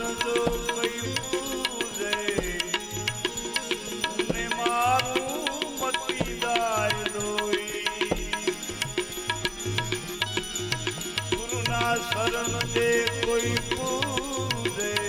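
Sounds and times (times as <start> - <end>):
tabla beating: 0.0 - 15.0.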